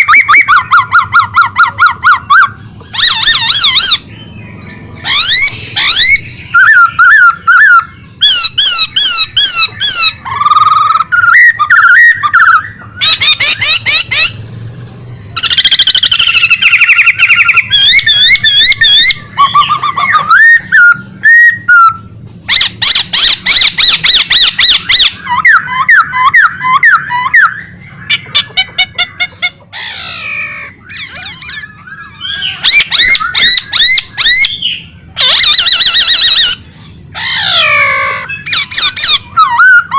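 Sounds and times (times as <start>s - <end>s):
songbird whistles and trills: 0.0s - 14.5s, 15.2s - 39.9s.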